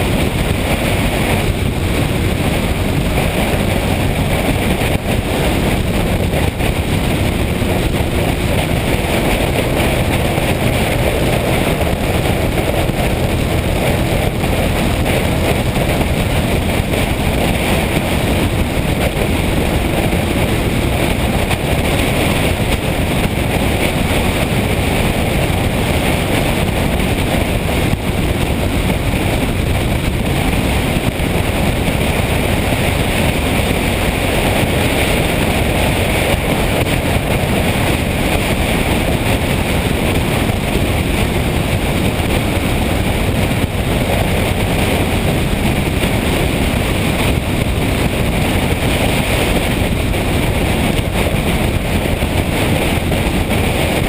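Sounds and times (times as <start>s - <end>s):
motorcycle engine running: 0.0s - 54.0s
road rush: 0.0s - 54.0s
wind noise on microphone: 0.0s - 54.0s.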